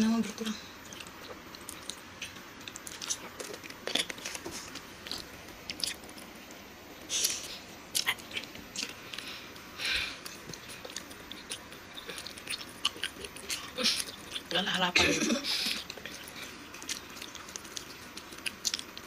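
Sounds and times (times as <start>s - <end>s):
chewing and mouth sounds: 0.8s - 6.3s, 7.2s - 9.4s, 10.2s - 14.6s, 15.6s - 19.0s.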